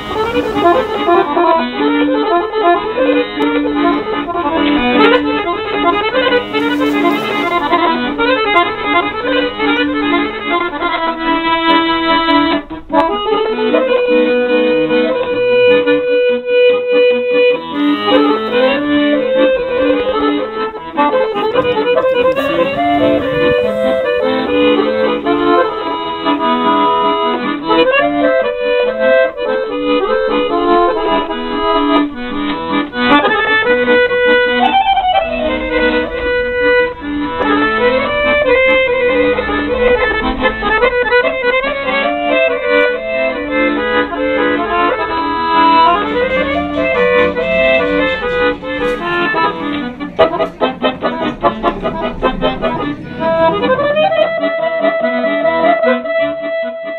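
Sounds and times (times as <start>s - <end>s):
instrumental background music: 0.0s - 56.9s.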